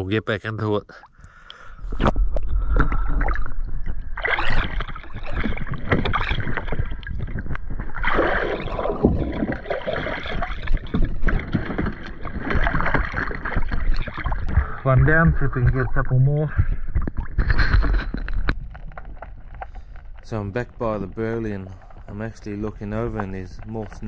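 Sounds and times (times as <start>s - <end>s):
water splashing: 1.1s - 24.0s.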